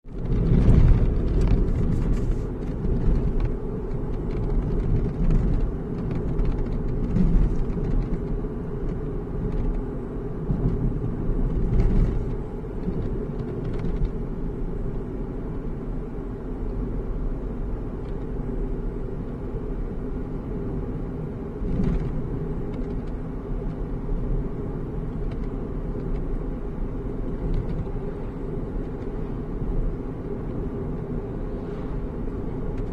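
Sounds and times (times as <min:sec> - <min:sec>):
car cabin road rumble: 0:00.0 - 0:32.9.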